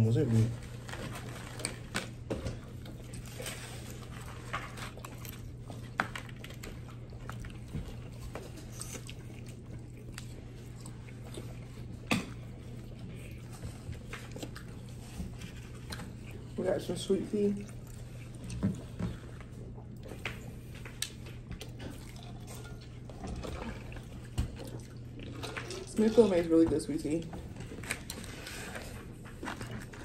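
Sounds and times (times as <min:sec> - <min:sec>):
steady low hum: 0:00.0 - 0:30.0
chewing fried food: 0:00.2 - 0:26.5, 0:27.2 - 0:30.0.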